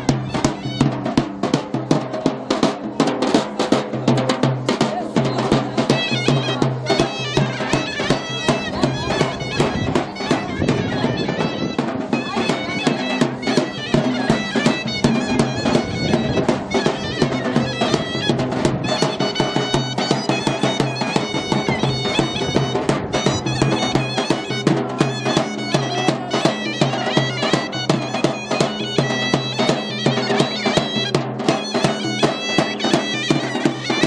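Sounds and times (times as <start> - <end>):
big drum beating: 0.0 - 34.0
shrill double-reed melody: 5.8 - 34.0.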